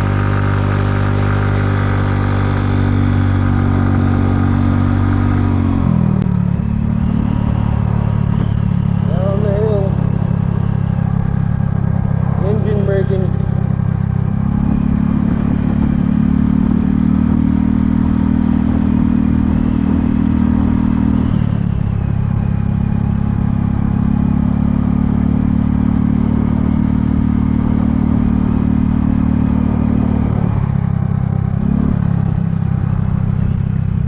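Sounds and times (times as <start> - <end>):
scooter engine running: 0.0 - 34.0.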